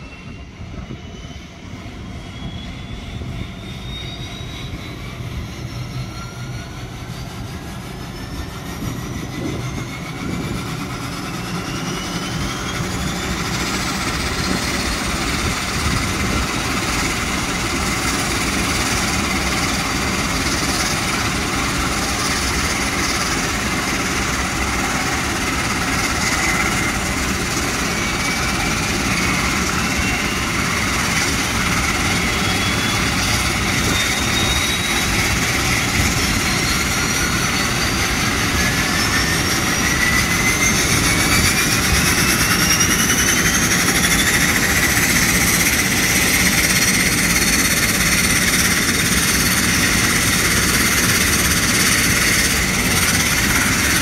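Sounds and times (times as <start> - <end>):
turboprop engine idling: 0.2 - 54.0.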